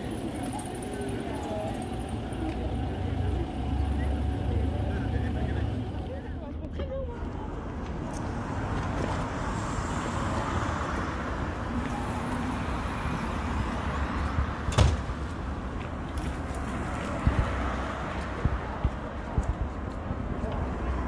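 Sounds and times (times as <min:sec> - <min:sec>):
road train rumbling over cobblestones: 0:00.0 - 0:21.0.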